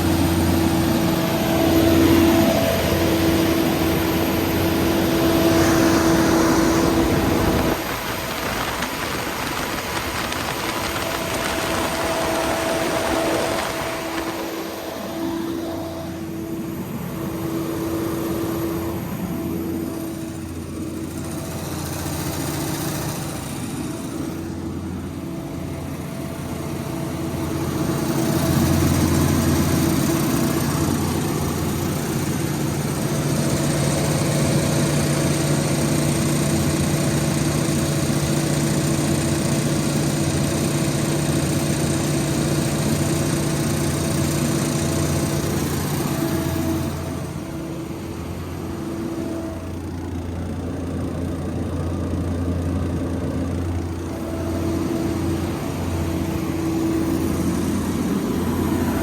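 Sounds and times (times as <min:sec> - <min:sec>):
diesel generator engine humming: 0:00.0 - 0:59.0.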